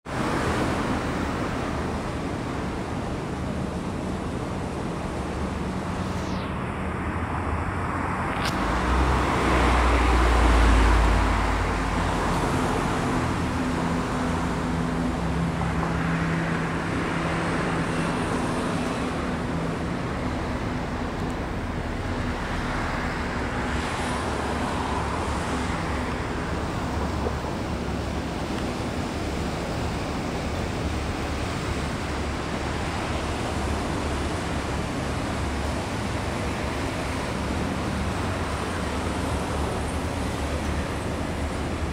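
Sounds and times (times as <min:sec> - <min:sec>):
city traffic with engine hum: 0:00.1 - 0:41.9.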